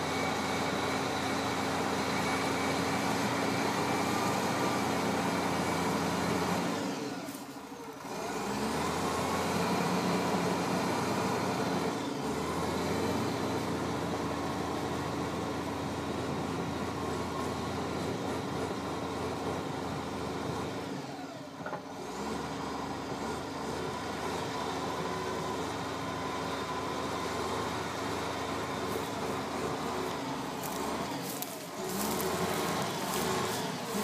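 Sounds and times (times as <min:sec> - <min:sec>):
dozer diesel engine under load: 0:00.0 - 0:34.0.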